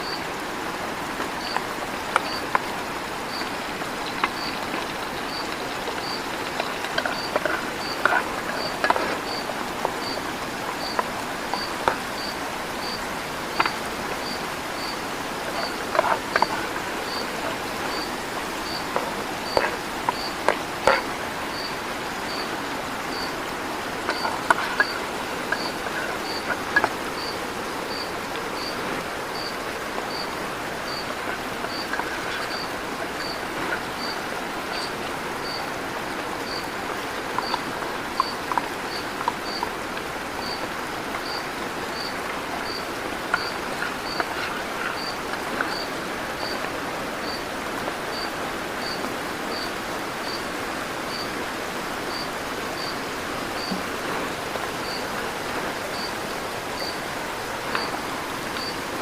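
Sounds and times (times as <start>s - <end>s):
insect chirping: 0.0s - 0.3s, 1.4s - 53.0s, 53.6s - 53.8s, 54.6s - 59.0s
river water flowing: 0.0s - 59.0s.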